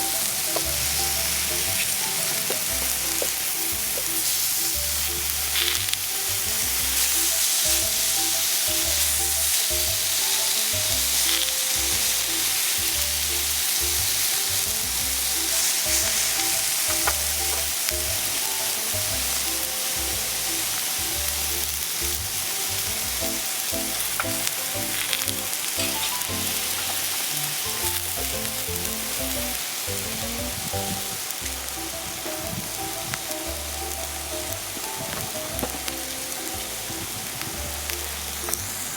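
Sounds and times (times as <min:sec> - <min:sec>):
food sizzling on griddle: 0:00.0 - 0:38.9
soft background music: 0:00.0 - 0:38.9.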